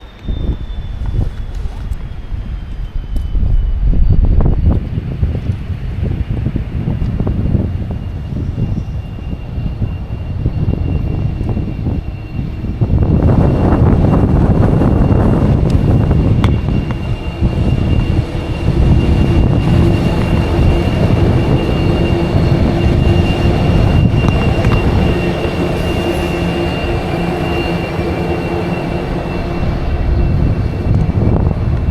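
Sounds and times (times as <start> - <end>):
freight train passing: 0.0 - 31.9
wind buffeting microphone: 0.0 - 31.9.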